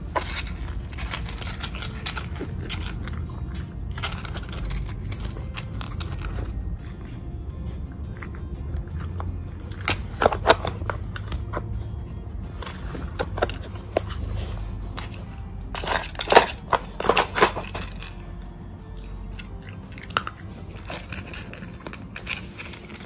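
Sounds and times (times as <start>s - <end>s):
plastic puzzle toy clattering: 0.0s - 6.8s, 9.1s - 11.7s, 12.6s - 18.2s, 19.3s - 23.0s
dog crunching treats: 0.0s - 23.0s.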